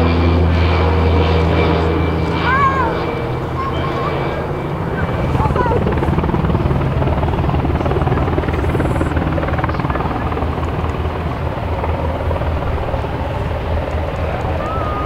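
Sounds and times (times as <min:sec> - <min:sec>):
turboprop aircraft flying past: 0:00.0 - 0:15.0.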